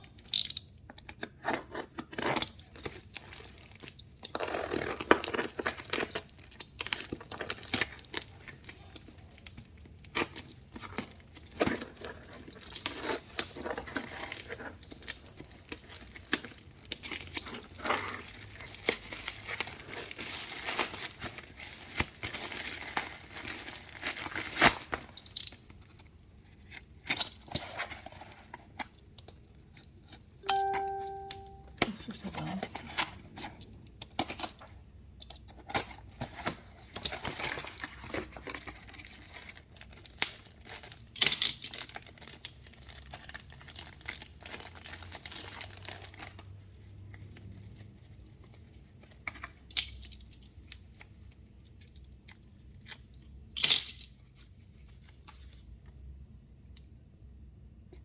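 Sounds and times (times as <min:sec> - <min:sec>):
packaging crinkling and tearing: 0:01.1 - 0:31.5, 0:35.4 - 0:55.8.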